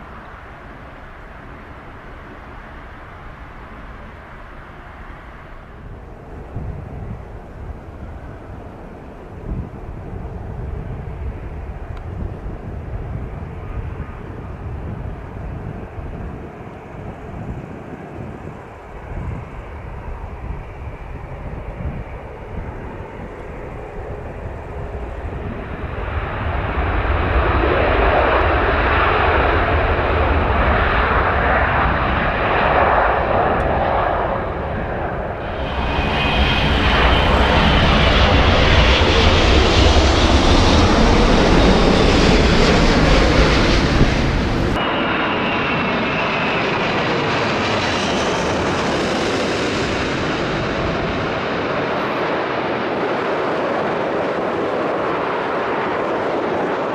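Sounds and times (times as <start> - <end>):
airplane engine and airflow rush: 0.0 - 56.9.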